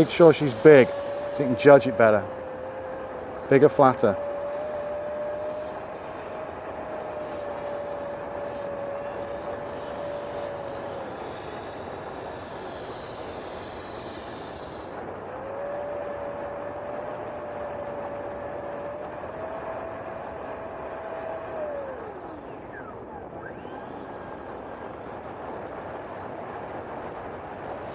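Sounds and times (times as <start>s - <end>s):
model jet fan whining: 0.0s - 27.9s.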